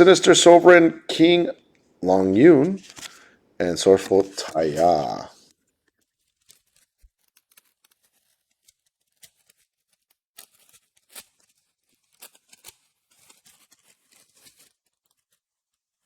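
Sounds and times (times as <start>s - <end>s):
cards shuffling in hand: 2.3s - 15.7s
foil wrapper crinkling and tearing: 2.6s - 16.0s.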